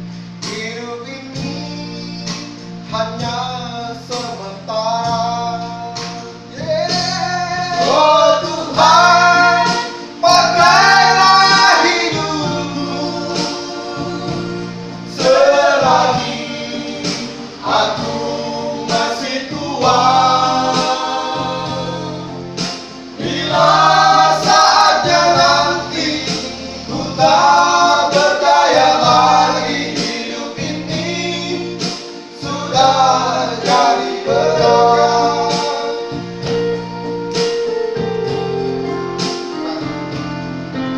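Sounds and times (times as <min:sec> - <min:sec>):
men singing gospel in harmony: 0:00.0 - 0:40.8
held accompaniment chords: 0:00.0 - 0:40.9.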